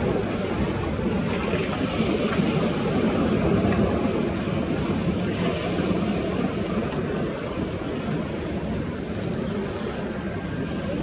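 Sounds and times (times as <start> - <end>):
sea waves: 0.0 - 11.0
wind noise on microphone: 0.0 - 11.0.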